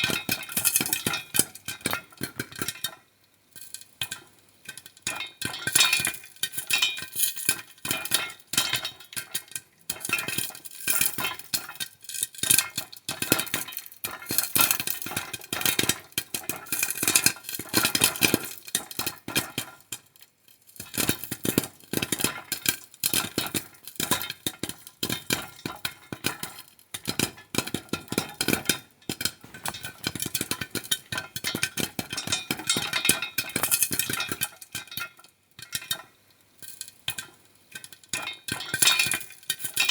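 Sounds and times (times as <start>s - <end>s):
popcorn popping in a pan: 0.0s - 39.9s.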